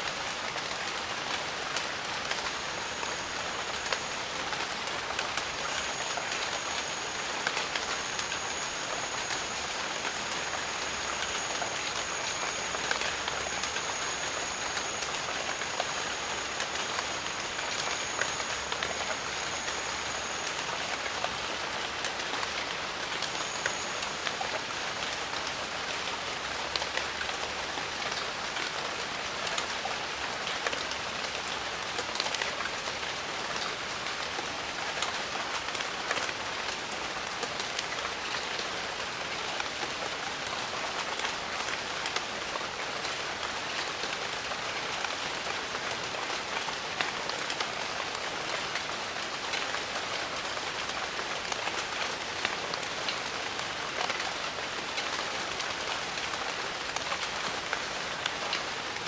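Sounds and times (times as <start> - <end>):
rain falling on foliage: 0.0 - 59.0.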